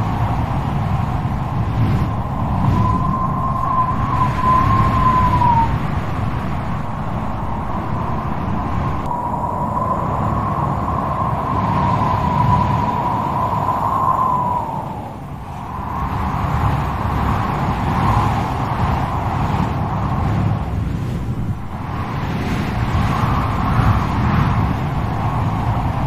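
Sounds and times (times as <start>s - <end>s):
strong wind howling: 0.0s - 26.0s.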